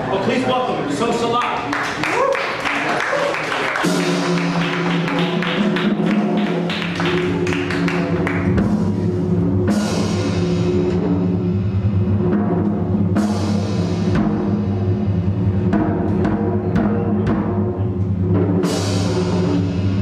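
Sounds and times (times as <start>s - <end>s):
drum kit played busily: 0.3s - 20.0s
jazz band playing: 3.6s - 20.0s.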